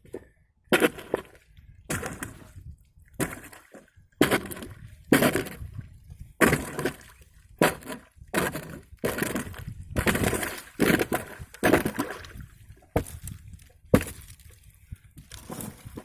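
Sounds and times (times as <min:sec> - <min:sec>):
ice crackling and water sloshing: 0:00.0 - 0:16.0.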